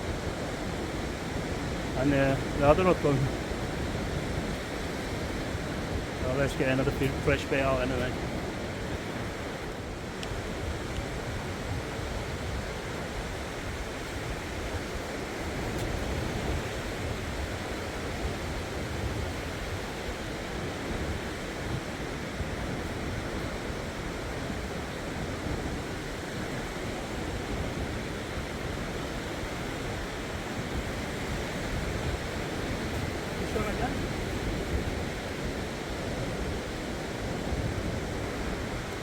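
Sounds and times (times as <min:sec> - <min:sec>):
sea surf washing on shore: 0:00.0 - 0:39.0
wind buffeting microphone: 0:00.0 - 0:39.0.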